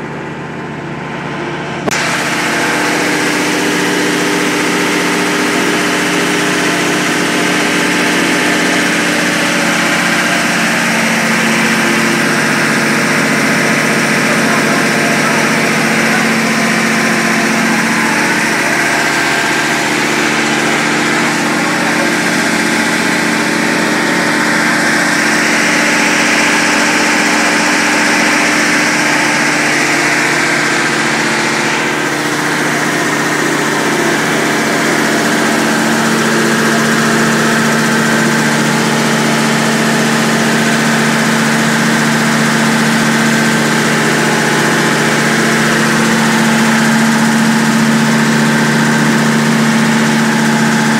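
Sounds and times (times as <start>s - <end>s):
generator engine humming: 0.0s - 50.9s.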